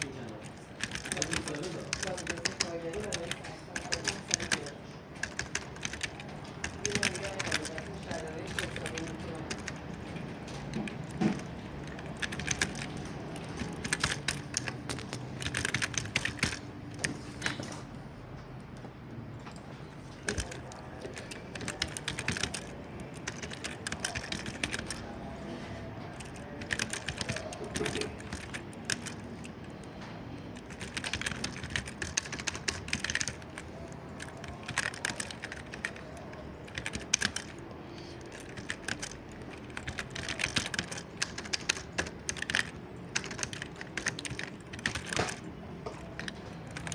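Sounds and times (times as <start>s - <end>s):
typing on computer keyboard: 0.0s - 46.9s.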